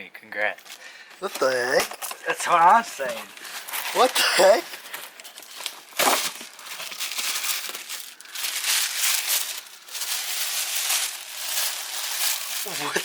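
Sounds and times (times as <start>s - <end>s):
paper packaging crinkling: 0.6s - 13.0s.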